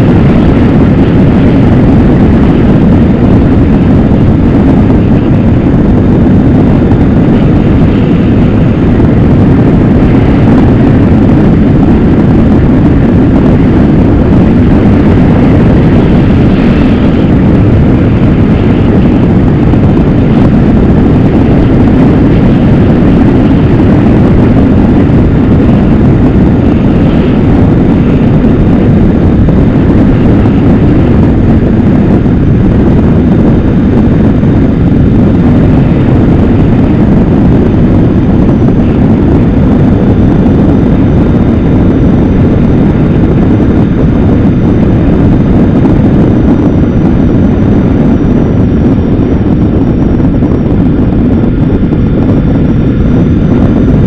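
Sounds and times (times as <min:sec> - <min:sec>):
motorcycle engine and road noise: 0:00.0 - 0:54.0.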